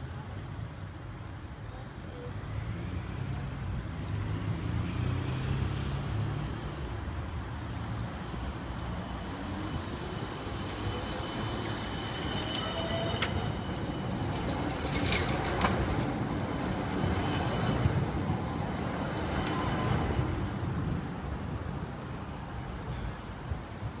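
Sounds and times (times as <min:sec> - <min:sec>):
tram wheels rumbling on rail: 0:00.1 - 0:24.0.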